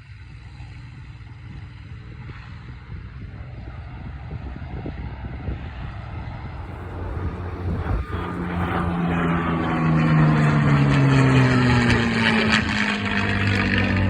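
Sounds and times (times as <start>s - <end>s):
propeller plane flying past: 0.0s - 14.0s.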